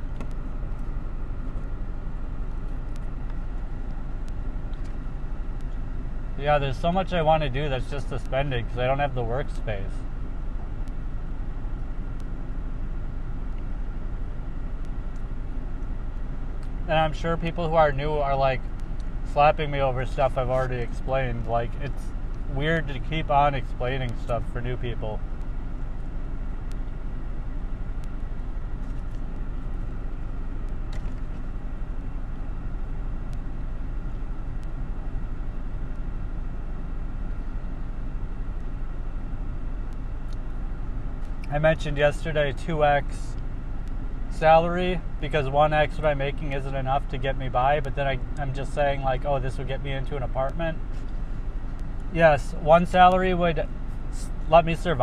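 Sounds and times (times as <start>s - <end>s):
car rumble inside cabin: 0.0s - 55.0s.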